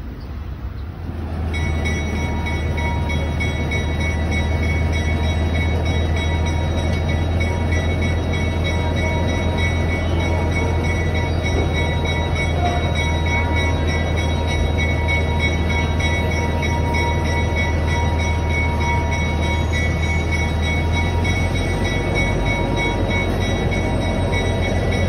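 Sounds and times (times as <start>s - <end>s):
train engine and cars droning: 0.0s - 25.0s.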